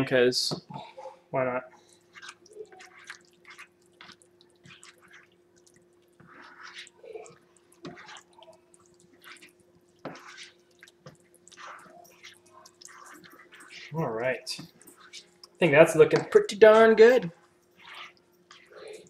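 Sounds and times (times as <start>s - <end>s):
wet squishing of stirred meat: 0.7s - 19.0s.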